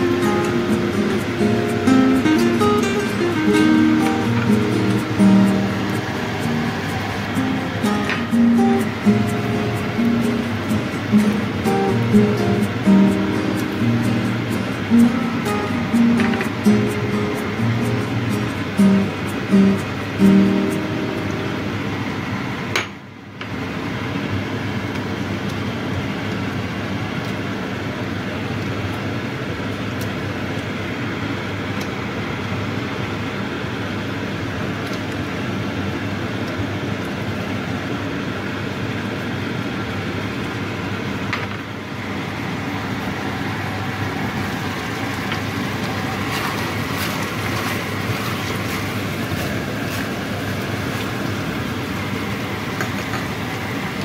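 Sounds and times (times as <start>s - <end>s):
sauce sizzling and bubbling in a wok: 0.0s - 54.0s.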